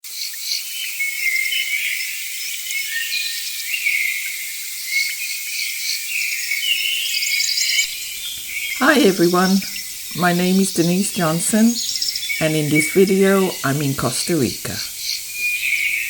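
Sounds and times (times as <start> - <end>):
insects buzzing and chirring: 0.1 - 16.0.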